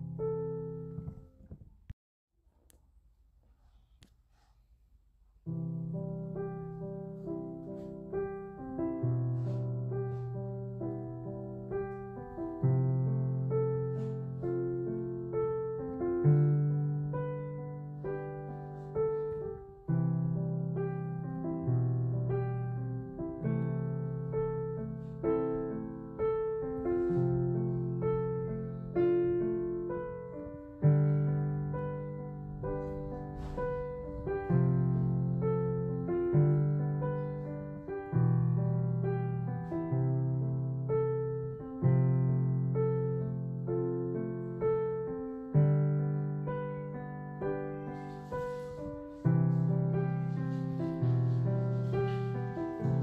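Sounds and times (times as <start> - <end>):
gentle piano music: 0.0 - 1.7, 5.4 - 53.0.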